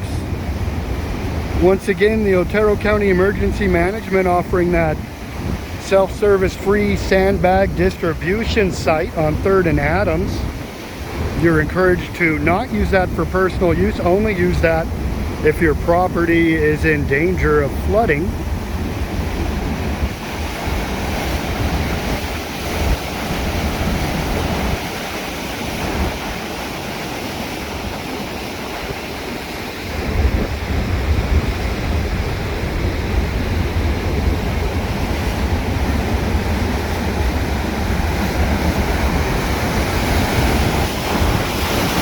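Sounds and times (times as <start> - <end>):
rushing river water: 0.0 - 42.0
wind buffeting microphone: 0.0 - 42.0.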